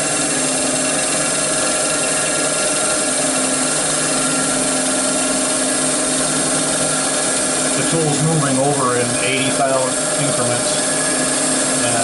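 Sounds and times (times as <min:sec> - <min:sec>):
cnc mill running: 0:00.0 - 0:12.0.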